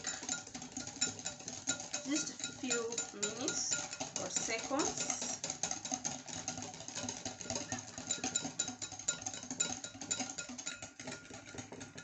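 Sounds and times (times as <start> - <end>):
whisk clicking against bowl: 0.0 - 12.0.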